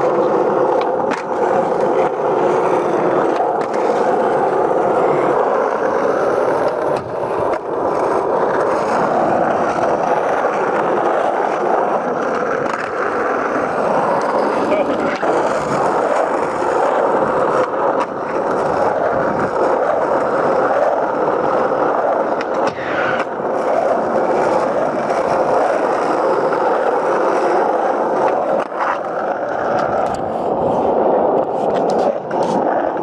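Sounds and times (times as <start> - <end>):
skateboard clacks: 0.0 - 33.0
skateboard wheels rolling on asphalt: 0.0 - 33.0.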